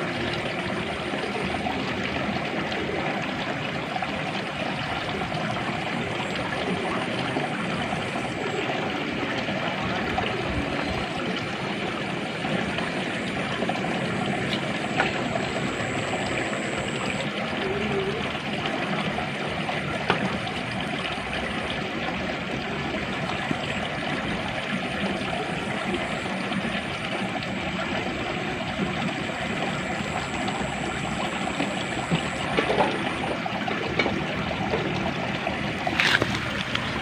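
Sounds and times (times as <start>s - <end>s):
water flowing and trickling: 0.0s - 37.0s.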